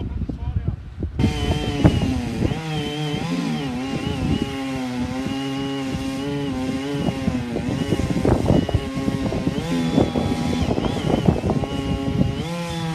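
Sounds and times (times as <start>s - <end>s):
chainsaw running at high revs: 1.2s - 12.9s.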